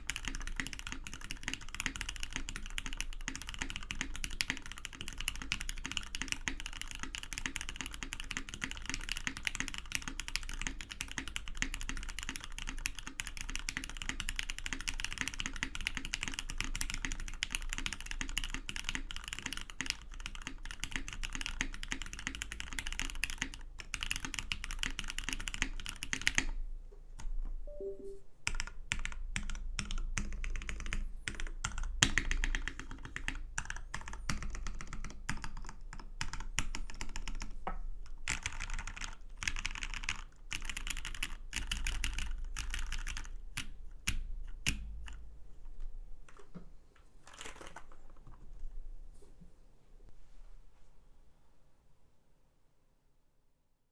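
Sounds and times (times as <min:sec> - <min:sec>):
mechanical keyboard typing: 0:00.0 - 0:26.6, 0:28.5 - 0:45.2.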